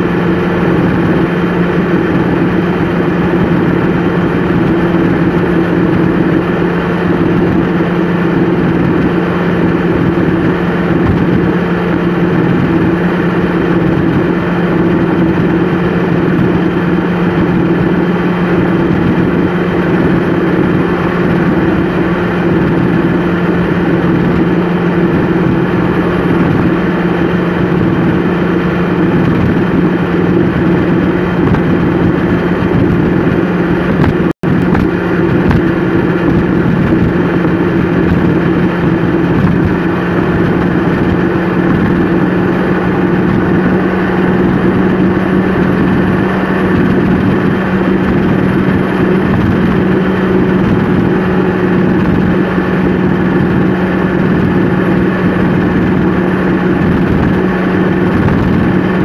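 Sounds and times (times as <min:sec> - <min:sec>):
road noise: 0:00.0 - 0:59.0
vehicle engine drone: 0:00.0 - 0:59.0.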